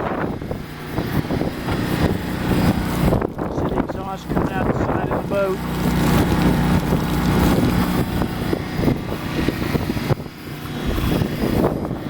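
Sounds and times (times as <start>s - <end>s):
generator running: 0.0s - 12.0s.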